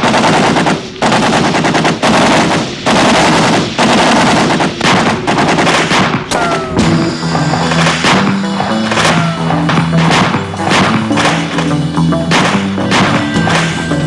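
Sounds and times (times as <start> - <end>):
machine-gun bursts: 0.0 - 6.3, 7.5 - 11.7, 12.3 - 13.8.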